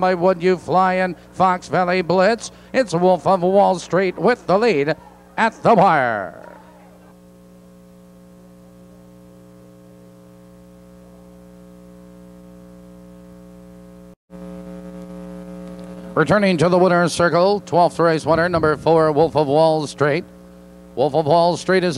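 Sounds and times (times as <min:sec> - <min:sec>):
electrical mains hum: 0:00.0 - 0:21.9.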